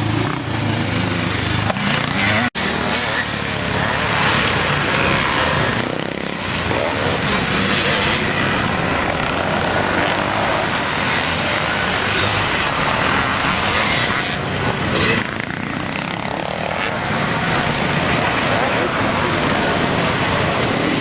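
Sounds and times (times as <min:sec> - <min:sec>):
motocross bike engines: 0:00.0 - 0:21.0.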